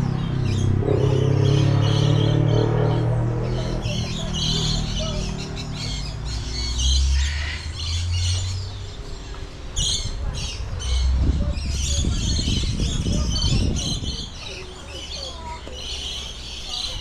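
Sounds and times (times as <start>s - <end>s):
birds chirping and squawking: 0.0s - 17.0s.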